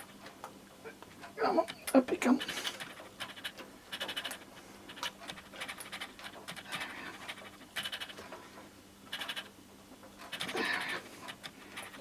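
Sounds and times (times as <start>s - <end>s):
wiring scraping and rustling: 1.1s - 12.0s.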